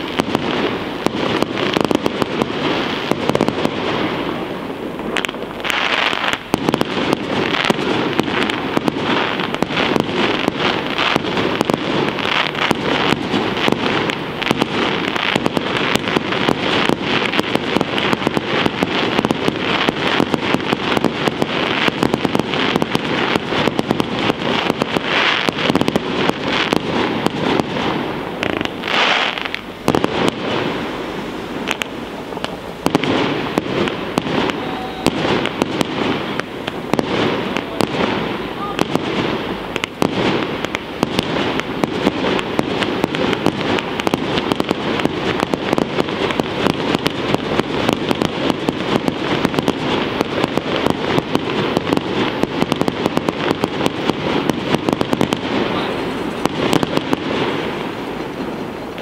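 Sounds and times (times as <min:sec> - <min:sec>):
firework shells bursting: 0:00.0 - 0:59.0.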